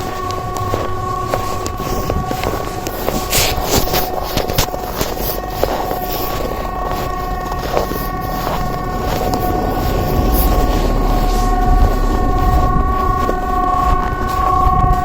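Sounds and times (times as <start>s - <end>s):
warning siren steady tone: 0.0s - 15.0s
wind rumbling on microphone: 0.0s - 15.0s.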